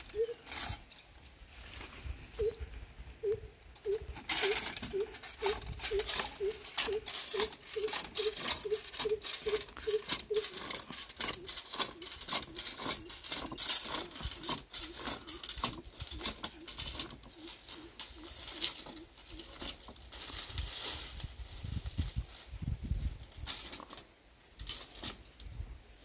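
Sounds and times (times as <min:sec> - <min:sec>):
metal climbing device rattling: 0:00.0 - 0:01.2, 0:03.8 - 0:25.6.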